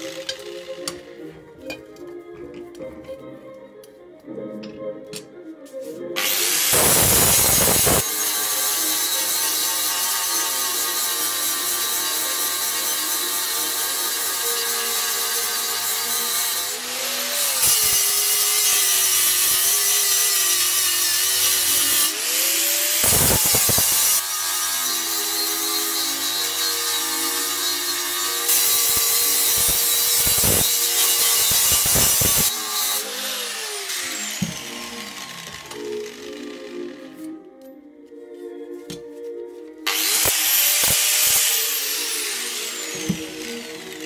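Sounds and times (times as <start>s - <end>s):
angle grinder cutting steel: 0.0s - 1.2s, 6.2s - 37.2s, 39.8s - 44.0s.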